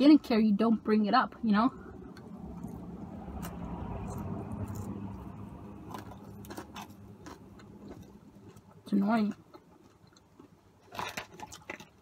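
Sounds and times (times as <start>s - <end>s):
traffic passing outside: 0.0s - 12.0s.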